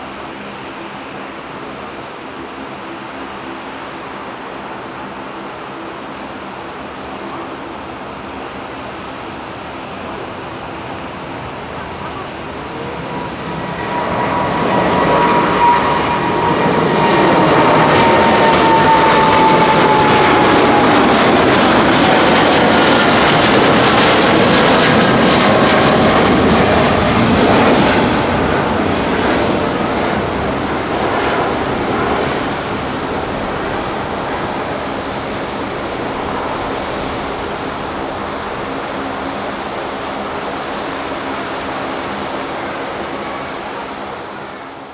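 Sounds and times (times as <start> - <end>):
jet engine roar: 0.0 - 44.9
jet engine whine: 0.0 - 44.9.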